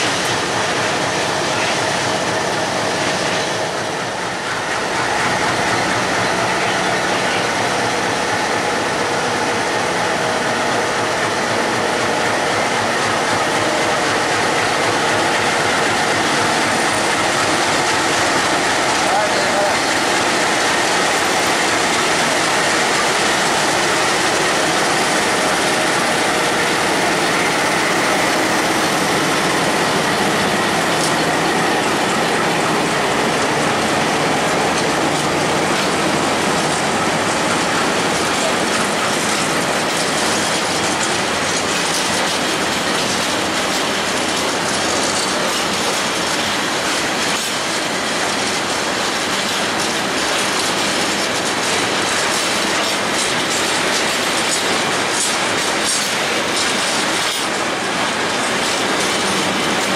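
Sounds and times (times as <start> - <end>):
diesel locomotives passing: 0.0 - 59.9
freight train wheels rumbling: 0.0 - 59.9
wheels clacking over rail joints: 0.0 - 59.9.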